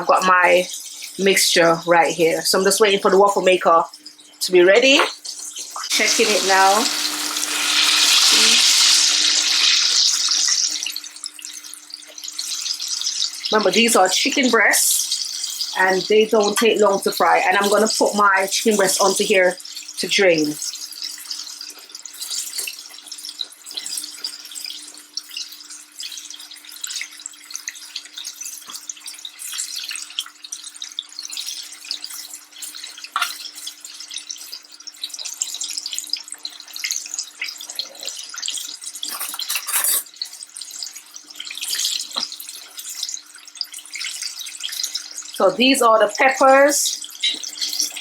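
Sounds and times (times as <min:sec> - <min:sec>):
chicken deep-frying in oil: 0:00.0 - 0:48.0.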